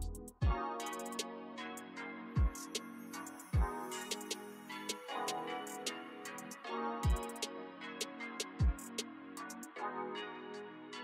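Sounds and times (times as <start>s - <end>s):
electronic beat music: 0.0s - 10.3s.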